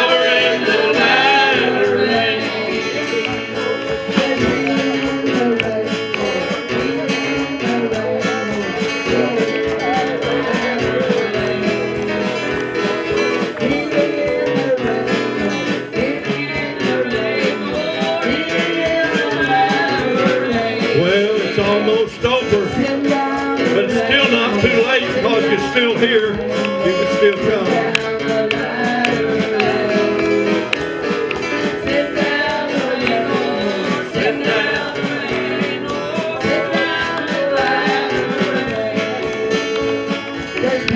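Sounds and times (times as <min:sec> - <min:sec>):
acoustic guitar: 0:00.0 - 0:40.9
gospel singing: 0:00.0 - 0:40.9.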